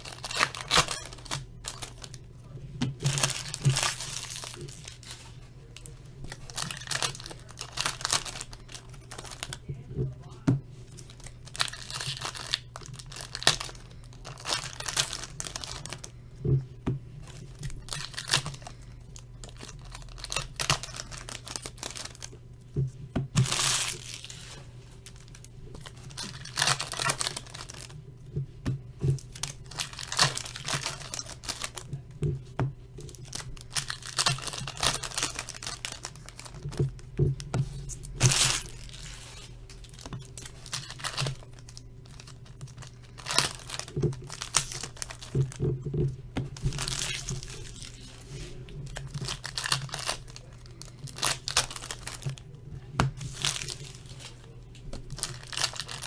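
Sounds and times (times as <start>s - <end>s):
card pack wrappers crinkling and tearing: 0.0s - 16.2s, 17.2s - 22.6s, 23.3s - 28.1s, 29.0s - 56.0s.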